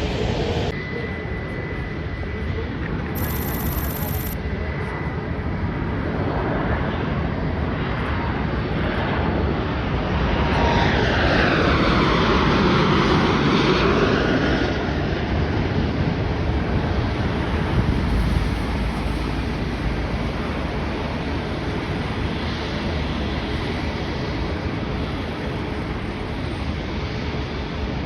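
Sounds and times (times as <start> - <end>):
jet plane passing by: 0.0 - 28.0.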